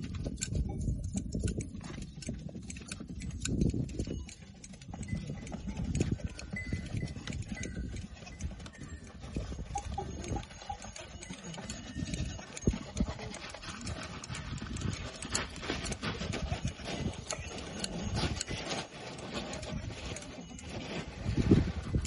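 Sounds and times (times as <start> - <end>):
shears snipping hair: 0.0 - 22.0.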